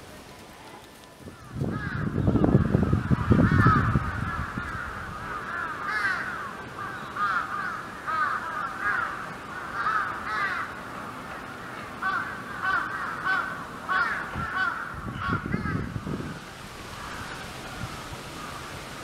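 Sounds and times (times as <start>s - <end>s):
animals calling: 0.0s - 19.0s.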